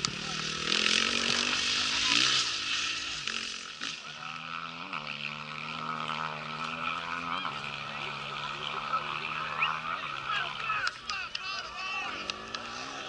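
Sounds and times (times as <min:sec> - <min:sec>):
distant motorcycle engine: 0:00.0 - 0:13.0.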